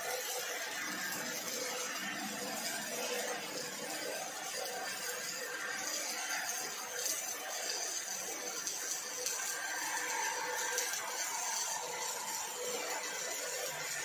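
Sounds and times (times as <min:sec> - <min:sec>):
welding torch hiss: 0:00.0 - 0:14.0.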